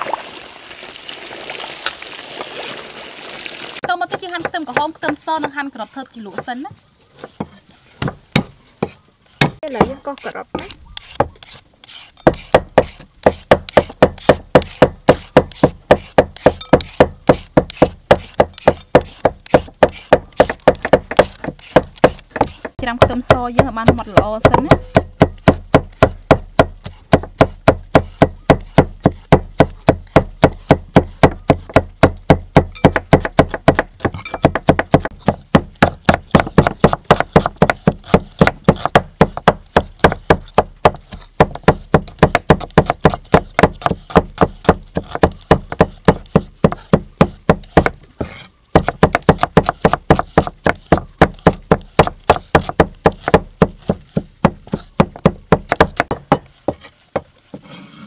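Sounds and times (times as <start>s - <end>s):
cleaver chopping on wooden board: 3.8s - 6.6s, 7.2s - 57.6s.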